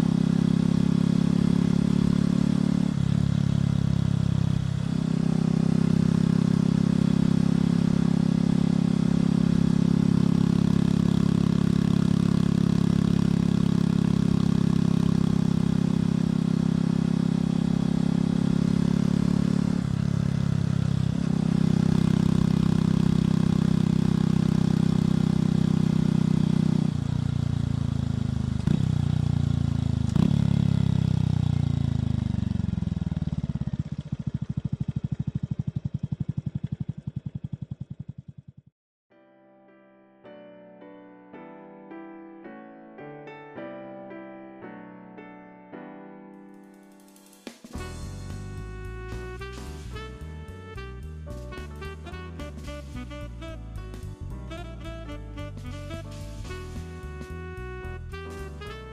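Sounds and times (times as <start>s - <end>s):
motorcycle engine running: 0.0s - 38.7s, 47.7s - 58.9s.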